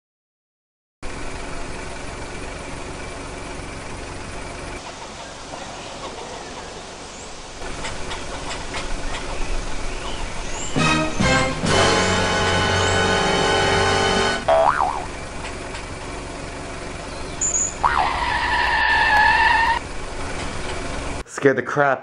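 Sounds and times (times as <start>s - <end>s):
vehicle engine running: 1.0s - 21.3s.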